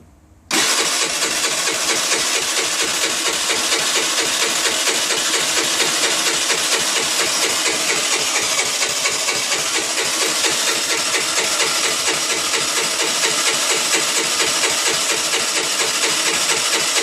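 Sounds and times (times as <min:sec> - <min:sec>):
scooter engine idling: 0:00.5 - 0:17.0.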